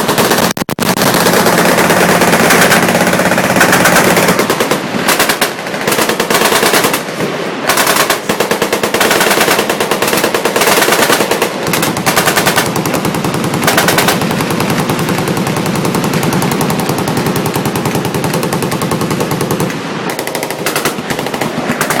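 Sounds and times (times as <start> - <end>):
machine guns firing: 0.0 - 22.0.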